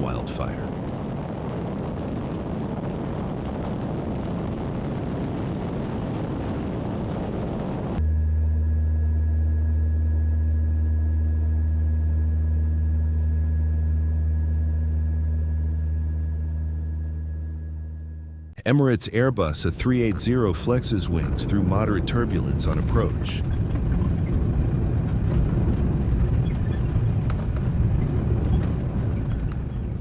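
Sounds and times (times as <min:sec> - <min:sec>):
aircraft engine drone: 0:00.0 - 0:30.0
turboprop aircraft roar: 0:00.0 - 0:30.0.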